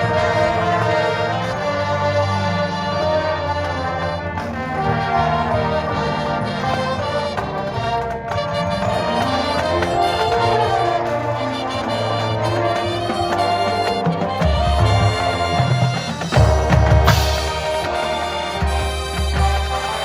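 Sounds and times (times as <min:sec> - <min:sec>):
brass section playing held chords: 0:00.0 - 0:20.0.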